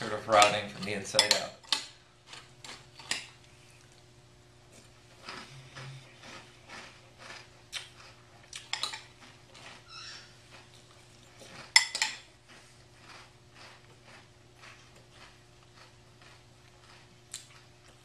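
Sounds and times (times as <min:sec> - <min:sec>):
low electrical hum: 0:00.0 - 0:18.0
cereal chewing crunches: 0:02.2 - 0:18.0.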